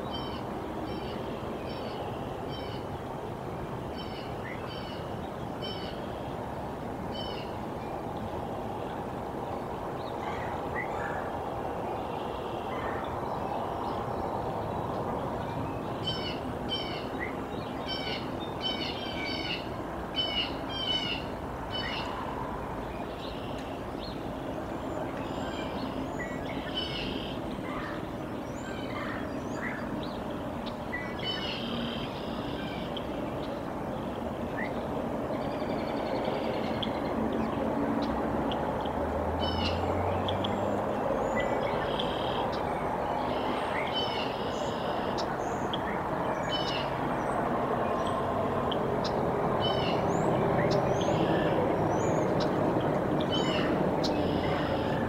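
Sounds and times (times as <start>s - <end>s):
low outdoor rush: 0.0s - 55.0s
songbirds chirping: 0.0s - 55.0s.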